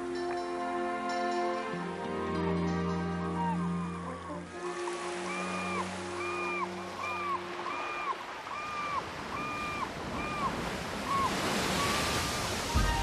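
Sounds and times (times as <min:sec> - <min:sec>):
sea waves washing: 0:00.0 - 0:13.0
seagulls calling: 0:02.4 - 0:13.0.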